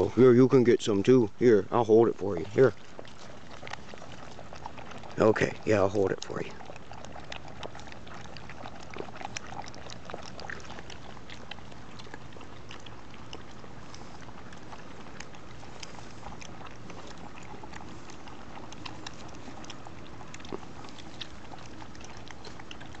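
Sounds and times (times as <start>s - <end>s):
puppies eating and licking: 0.0s - 23.0s.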